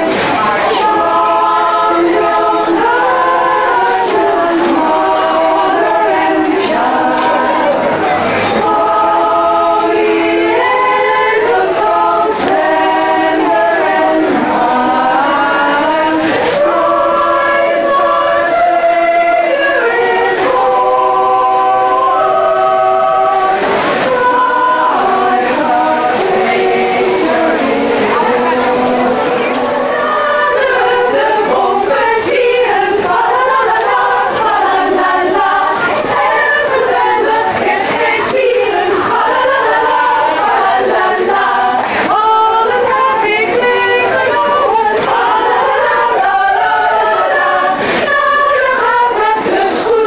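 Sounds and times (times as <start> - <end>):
women singing in harmony: 0.0 - 50.0.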